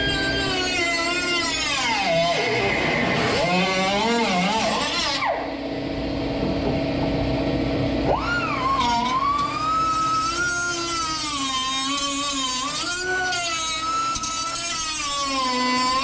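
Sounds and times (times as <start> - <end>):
cut-off wheel cutting sheet metal: 0.0 - 5.5, 8.1 - 16.0.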